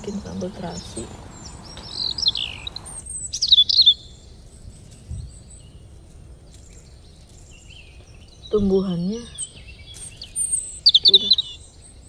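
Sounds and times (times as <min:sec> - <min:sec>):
small songbird chirping: 0:00.0 - 0:12.0.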